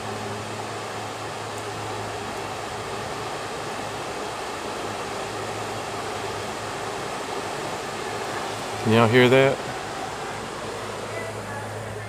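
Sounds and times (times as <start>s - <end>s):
creek flowing over rocks: 0.0s - 12.0s.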